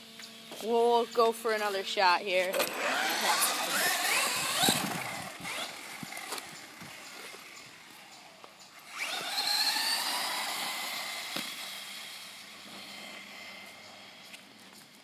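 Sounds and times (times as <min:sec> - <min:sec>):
electric motor whining: 0:00.0 - 0:14.9.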